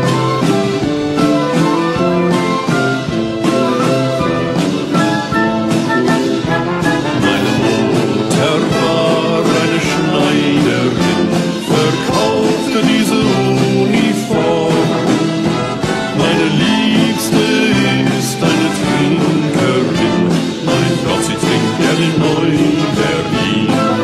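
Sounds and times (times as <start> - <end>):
orchestral music with brass: 0.0 - 24.0.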